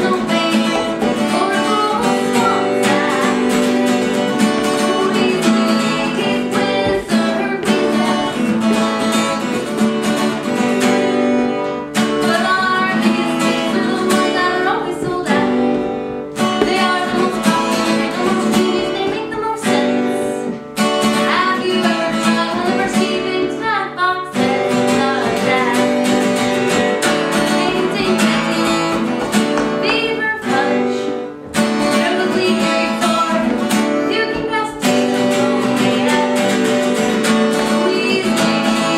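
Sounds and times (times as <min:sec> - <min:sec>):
person singing: 0:00.0 - 0:09.8, 0:12.2 - 0:38.9
strummed guitar: 0:00.0 - 0:38.9.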